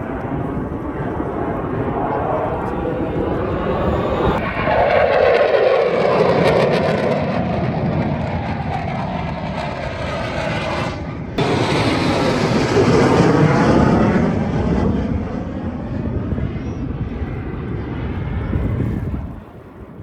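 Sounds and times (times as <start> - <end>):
aircraft flying past: 0.0 - 20.0.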